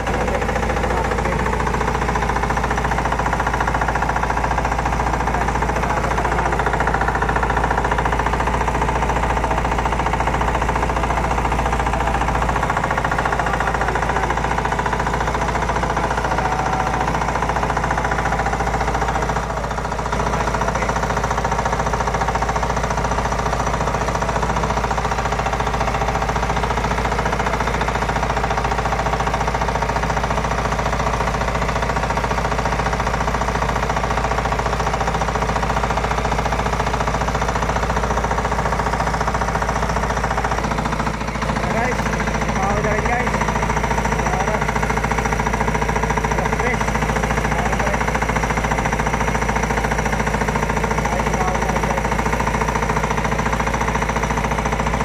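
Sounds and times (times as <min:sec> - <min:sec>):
boat engine knocking: 0:00.0 - 0:55.0.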